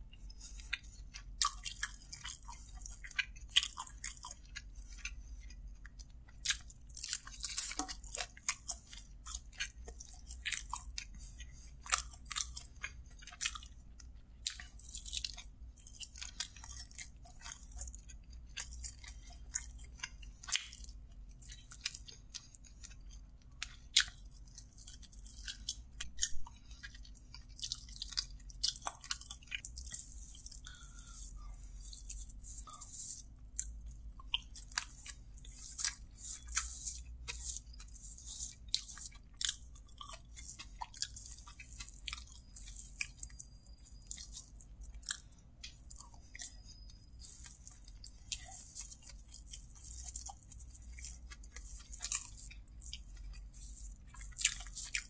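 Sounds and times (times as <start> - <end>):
chewing and biting: 0.0 - 55.0
mouth clicks and smacks: 0.1 - 55.0.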